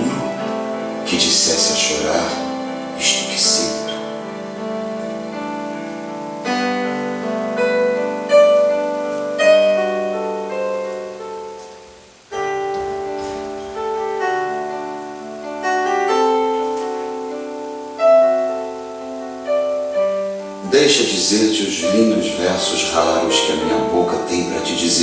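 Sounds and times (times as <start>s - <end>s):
slow solo piano: 0.0s - 25.0s.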